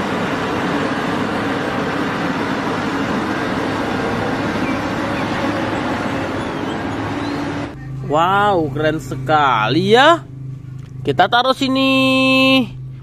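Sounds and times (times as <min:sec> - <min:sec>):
diesel engine hum: 0:00.0 - 0:13.0.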